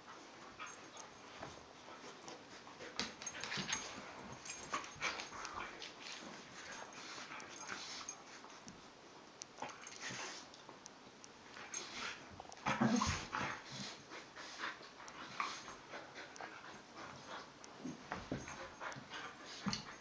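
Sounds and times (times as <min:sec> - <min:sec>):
dogs scuffling and mouthing: 0:00.0 - 0:08.9, 0:09.5 - 0:10.8, 0:11.4 - 0:20.0.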